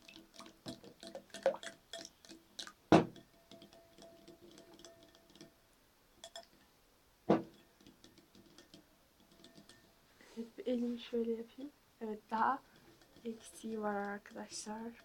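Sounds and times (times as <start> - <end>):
spoon stirring slime in a bowl: 0.0 - 5.6, 7.4 - 11.1, 12.0 - 15.0.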